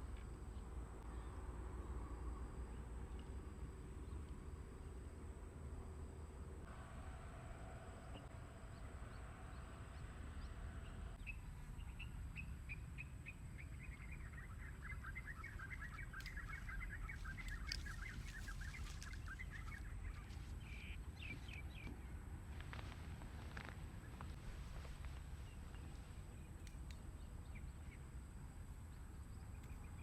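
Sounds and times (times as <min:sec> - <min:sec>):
low steady background noise: 0:00.0 - 0:30.0.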